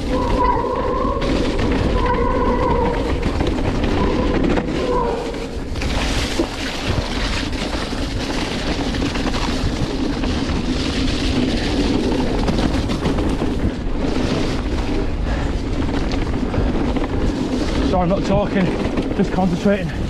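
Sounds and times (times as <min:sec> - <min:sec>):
bike rattling: 0:00.0 - 0:20.0
bike tyres on mud: 0:00.0 - 0:20.0.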